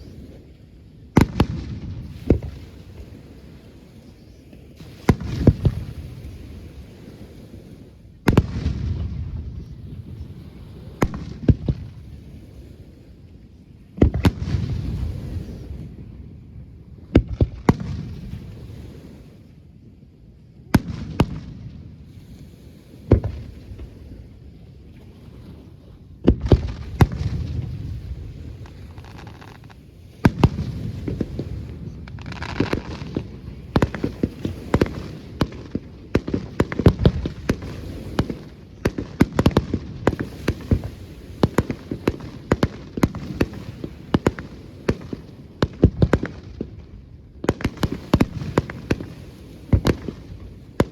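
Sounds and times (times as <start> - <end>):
rapid firework bangs and crackles: 1.1 - 13.0, 14.0 - 16.0, 17.1 - 19.3, 20.7 - 24.3, 26.2 - 50.9.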